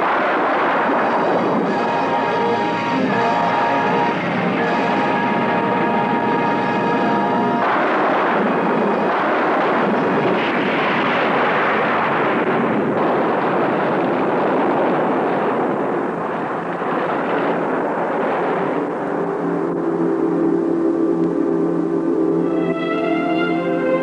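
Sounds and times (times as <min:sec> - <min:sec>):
film music: 0:00.0 - 0:12.5, 0:17.2 - 0:24.0
explosion roar: 0:00.0 - 0:20.0.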